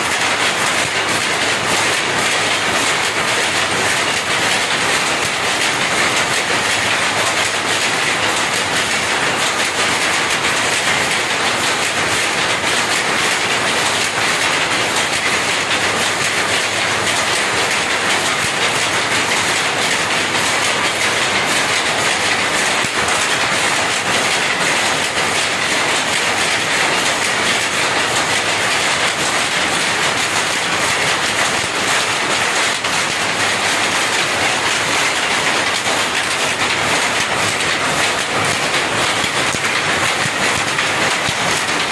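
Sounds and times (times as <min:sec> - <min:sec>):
power looms clattering: 0:00.0 - 0:41.9.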